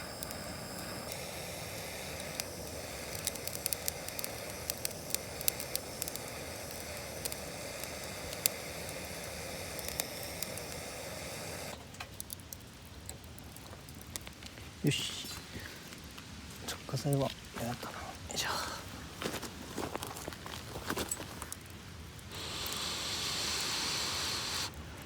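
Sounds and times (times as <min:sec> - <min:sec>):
campfire hissing and crackling: 0:00.0 - 0:25.0.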